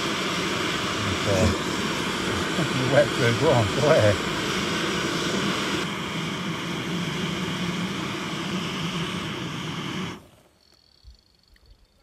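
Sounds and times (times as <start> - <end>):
gas stove roaring: 0.0 - 10.5.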